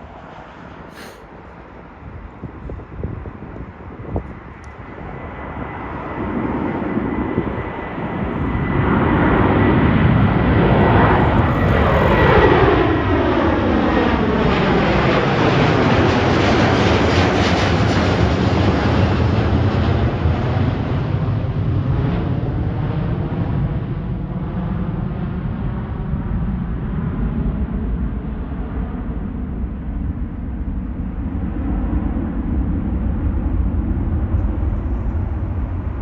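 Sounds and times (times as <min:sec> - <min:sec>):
jet airliner engines roaring: 0:00.0 - 0:36.0.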